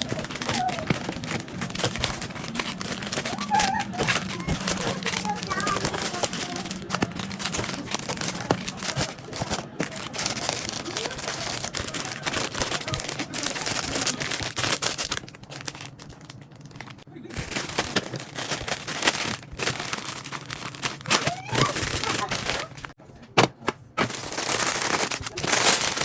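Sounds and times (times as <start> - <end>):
plastic packaging crinkling: 0.0 - 23.0, 23.9 - 26.0.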